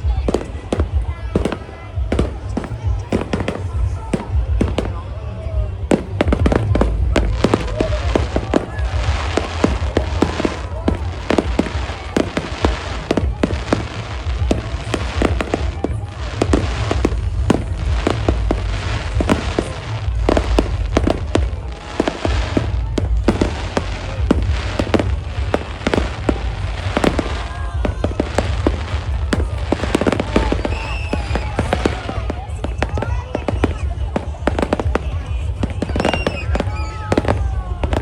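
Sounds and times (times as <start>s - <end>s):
fireworks bangs and cracks: 0.0s - 38.0s.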